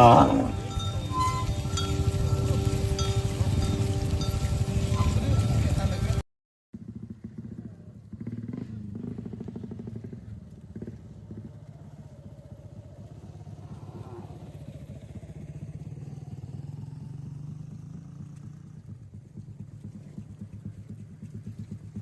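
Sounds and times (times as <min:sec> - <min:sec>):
small engine running: 0:00.0 - 0:06.2, 0:06.8 - 0:22.0.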